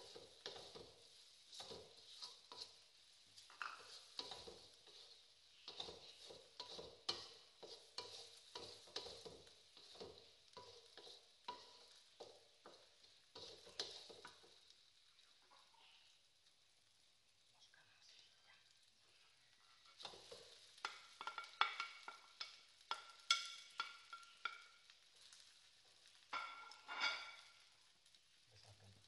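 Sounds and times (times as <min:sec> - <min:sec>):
wooden spatula scraping a metal wok: 0:00.0 - 0:15.8, 0:18.7 - 0:27.8
faint sizzling: 0:00.0 - 0:29.0.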